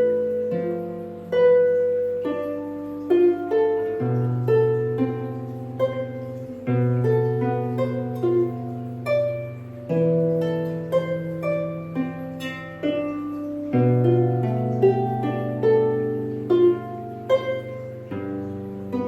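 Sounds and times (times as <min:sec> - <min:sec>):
harp playing slowly: 0:00.0 - 0:19.0.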